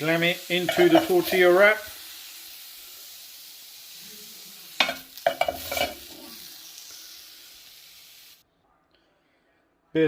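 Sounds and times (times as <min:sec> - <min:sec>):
chicken sizzling in a frying pan: 0:00.0 - 0:08.4.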